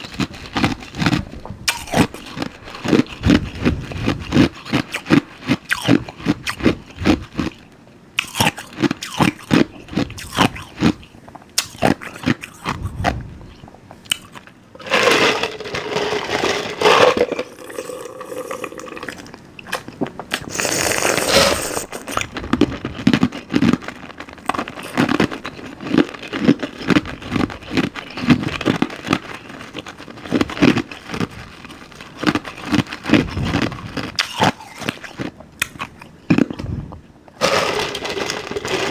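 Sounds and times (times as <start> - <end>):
crunching and chewing brittle food: 0.0 - 38.9.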